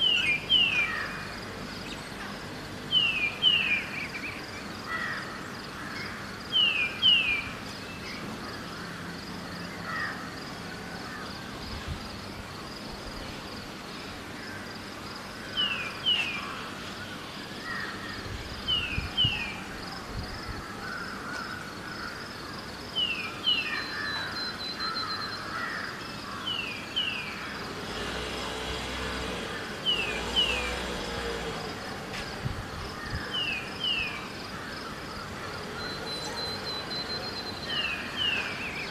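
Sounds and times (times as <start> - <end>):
lower bird chirping: 0.0 - 38.9
high insect-like hiss: 7.5 - 38.9.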